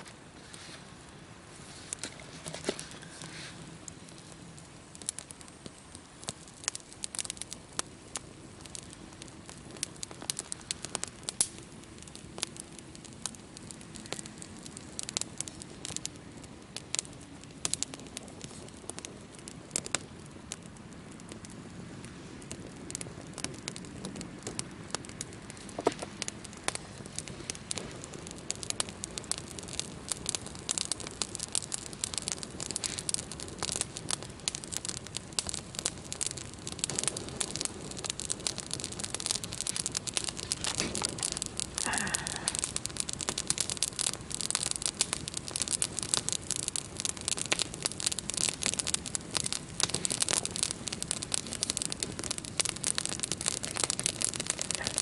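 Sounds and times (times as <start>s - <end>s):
low background noise: 0.0s - 55.0s
crackling clicks and pops: 1.9s - 55.0s.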